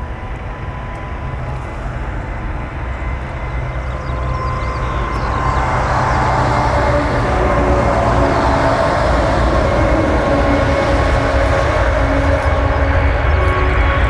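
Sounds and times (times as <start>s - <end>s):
jet engines deep rumble: 0.0s - 14.0s
jet fan whine: 0.0s - 14.0s.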